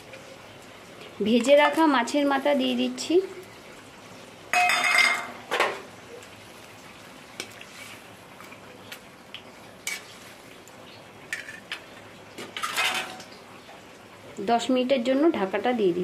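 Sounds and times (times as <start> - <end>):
low steady sizzle: 0.0 - 16.0.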